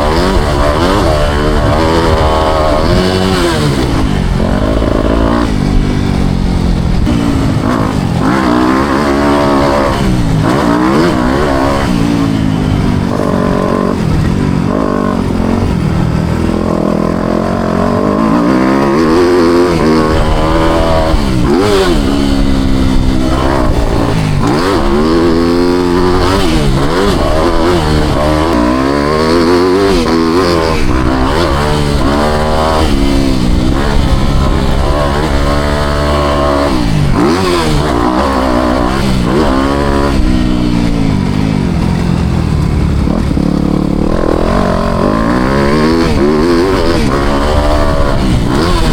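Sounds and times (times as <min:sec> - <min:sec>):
motocross bike engine revving: 0:00.0 - 0:48.9.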